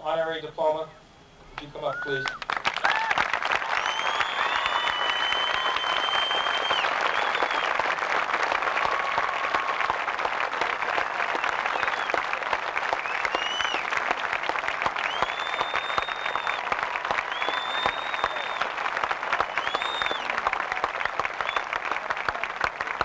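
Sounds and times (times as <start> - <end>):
crowd applauding: 1.6 - 23.0.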